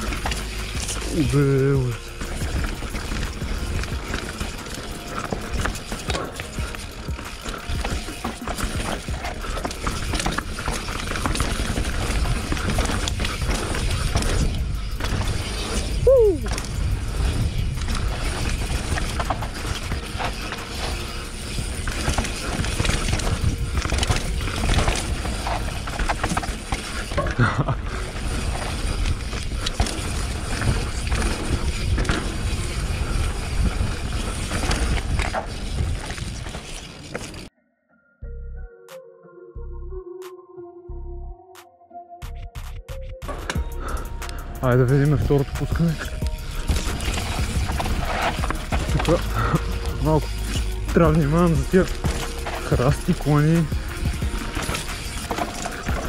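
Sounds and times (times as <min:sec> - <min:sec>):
bike rattling and clicking: 0:00.0 - 0:37.5, 0:42.6 - 0:56.0
bike tyres rumbling over stones: 0:00.0 - 0:37.5, 0:43.3 - 0:56.0.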